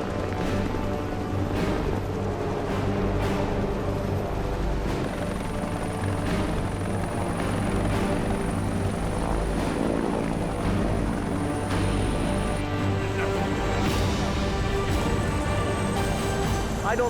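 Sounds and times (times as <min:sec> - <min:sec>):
helicopter rotor and turbine: 0:00.0 - 0:17.0
high turbine whine: 0:00.0 - 0:17.0.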